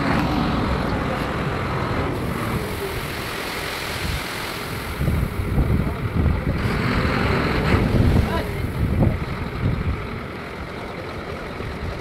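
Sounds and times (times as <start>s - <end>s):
wind buffeting microphone: 0.0s - 10.3s
construction machinery engines rumbling: 0.0s - 12.0s.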